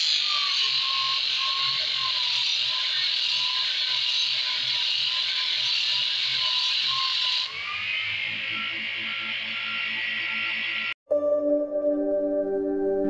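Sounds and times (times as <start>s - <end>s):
disc sander grinding wood: 0.0s - 10.9s
motor whine: 0.0s - 11.0s.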